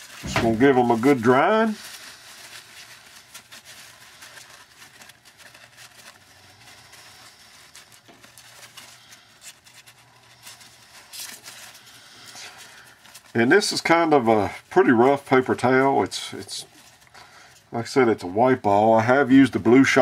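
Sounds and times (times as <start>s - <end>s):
paper towel rustling: 0.0s - 20.0s.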